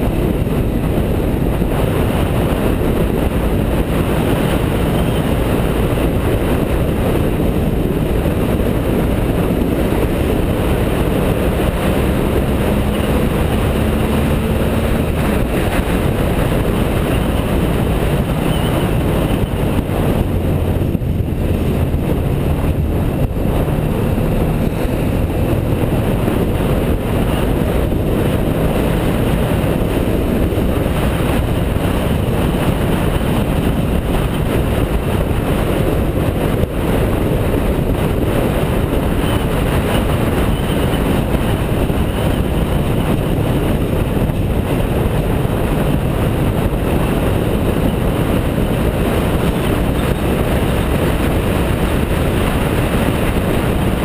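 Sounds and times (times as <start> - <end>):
motorcycle engine running: 0.0 - 54.0
wind rush over microphone: 0.0 - 54.0.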